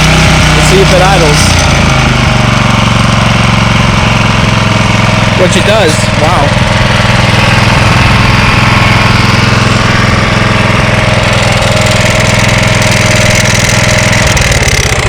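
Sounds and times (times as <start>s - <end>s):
lawn mower engine idling: 0.0s - 15.0s.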